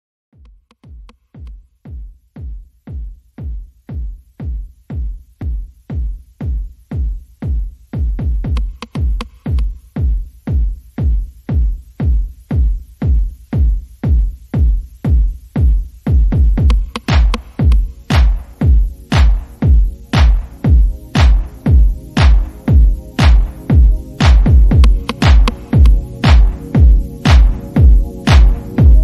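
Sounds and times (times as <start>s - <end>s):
electronic dance music: 0.6s - 29.0s.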